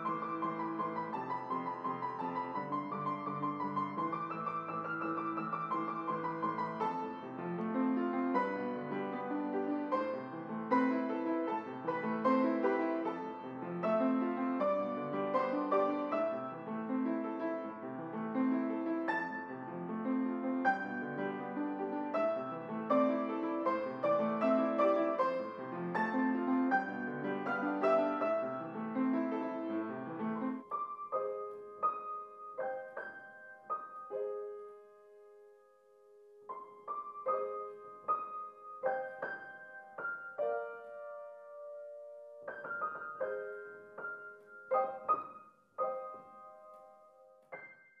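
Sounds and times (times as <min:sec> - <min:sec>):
solo piano music: 0:00.0 - 0:48.0.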